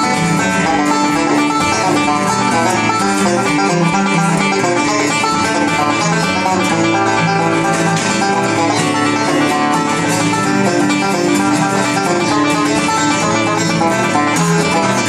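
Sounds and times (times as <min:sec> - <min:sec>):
acoustic guitar: 0:00.0 - 0:15.0
banjo picking bluegrass: 0:00.0 - 0:15.0.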